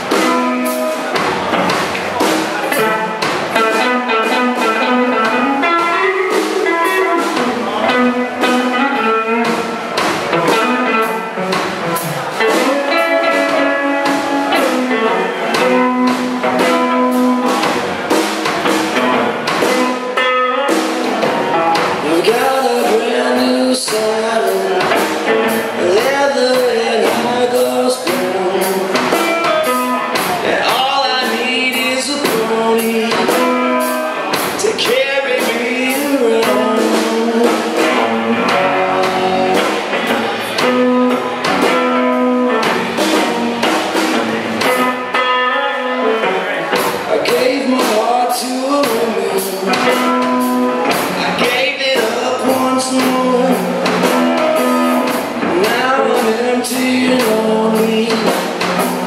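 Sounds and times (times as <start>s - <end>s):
drums and cymbals: 0.0s - 59.0s.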